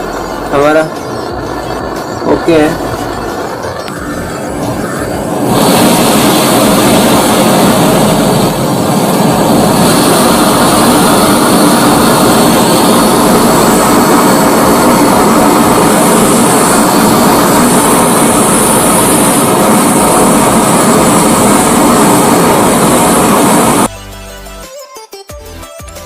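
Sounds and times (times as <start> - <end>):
gas torch flame rushing: 0.0 - 23.9.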